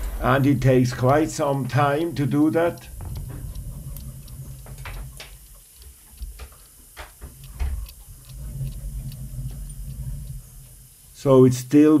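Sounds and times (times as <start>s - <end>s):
ratchet clicking: 0.0s - 11.0s
low steady hum: 0.0s - 12.0s.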